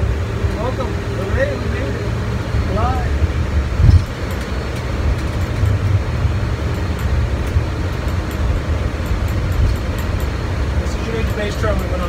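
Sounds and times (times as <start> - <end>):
aircraft cockpit rumble: 0.0 - 12.0.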